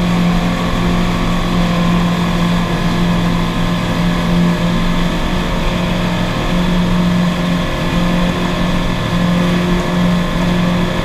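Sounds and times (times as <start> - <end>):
motorboat engine humming: 0.0 - 11.0
rushing wake water: 0.0 - 11.0.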